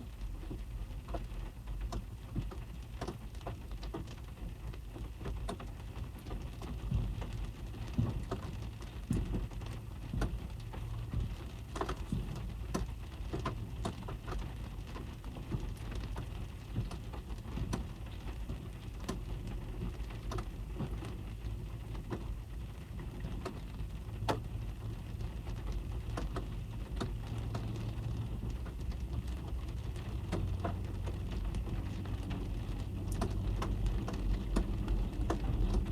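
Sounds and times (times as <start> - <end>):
raindrops tapping on car: 0.0 - 35.9.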